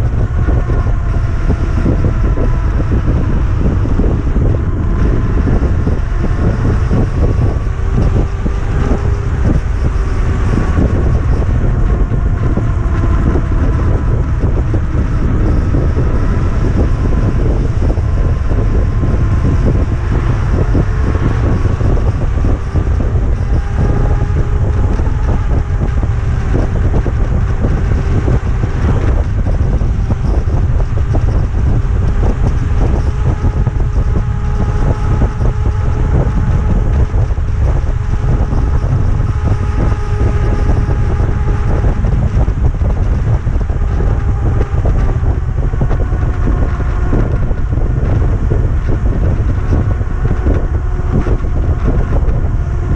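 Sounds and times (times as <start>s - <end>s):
electric motor whining: 0.0s - 52.9s
wind rumble on microphone: 0.0s - 52.9s.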